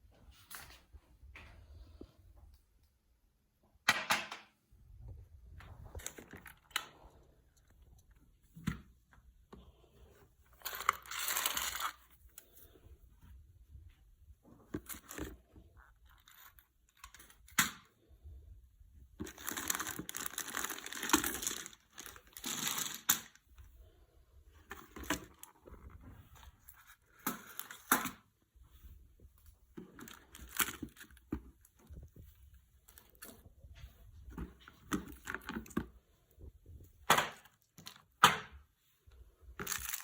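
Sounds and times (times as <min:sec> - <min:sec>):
crinkling and rustling: 0:04.2 - 0:40.0.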